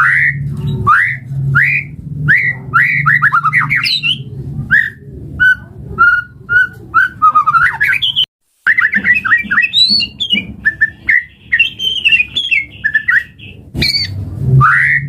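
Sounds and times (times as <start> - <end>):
bird singing whistled notes: 0.0 - 15.0.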